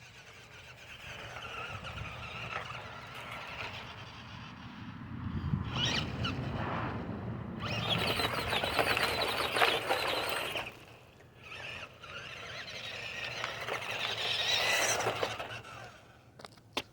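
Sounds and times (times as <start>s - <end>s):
toy car motor whining: 0.0s - 4.8s, 5.6s - 6.3s, 7.6s - 16.6s.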